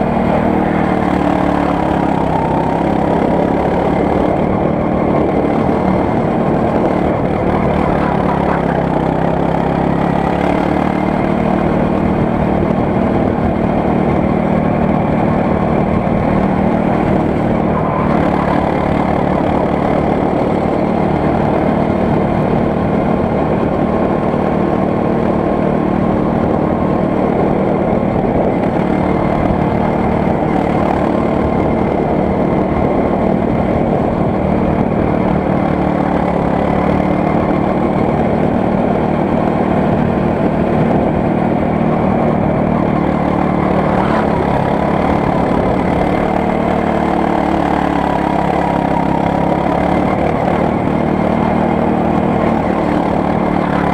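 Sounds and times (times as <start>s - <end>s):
go-kart engine drone: 0.0s - 53.9s.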